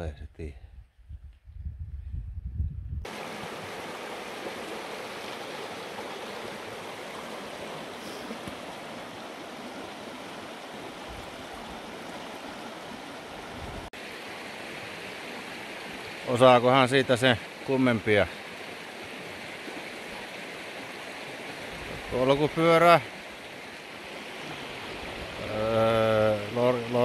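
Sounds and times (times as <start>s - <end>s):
rocky stream babbling: 3.1s - 27.0s.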